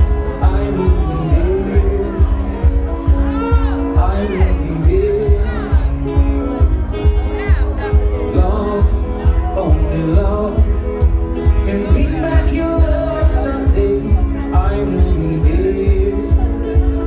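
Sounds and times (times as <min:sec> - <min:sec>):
live bluegrass band: 0:00.0 - 0:17.0
person singing: 0:00.0 - 0:17.0
steady drum beat: 0:00.0 - 0:17.0.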